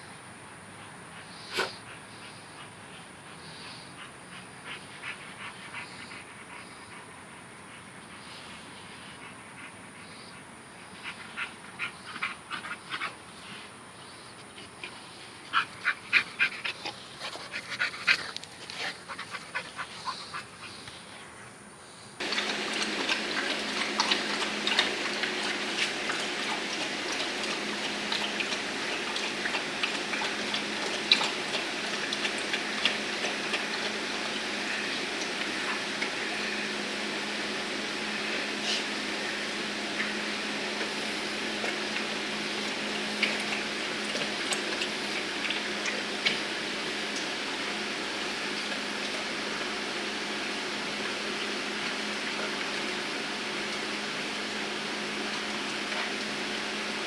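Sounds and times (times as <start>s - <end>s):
steady noise with low hum: 0.0s - 57.0s.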